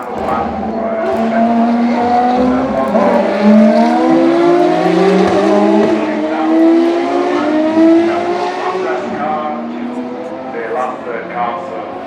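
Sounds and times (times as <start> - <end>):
racing engine accelerating hard: 0.0 - 12.0.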